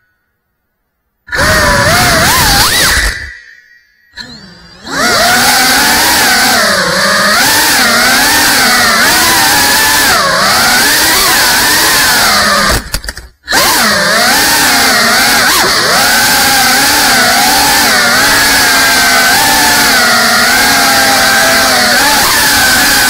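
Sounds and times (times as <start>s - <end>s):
drone motors whining: 1.3s - 23.0s.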